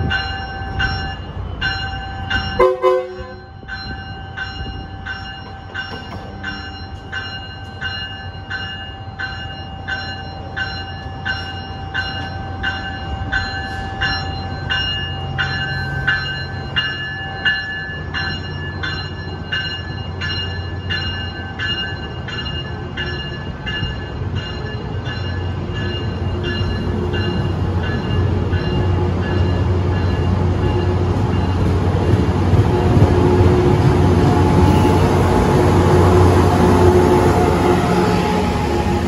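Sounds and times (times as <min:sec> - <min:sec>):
low rumble of moving train: 0:00.0 - 0:39.0
train bell ringing: 0:00.0 - 0:39.0.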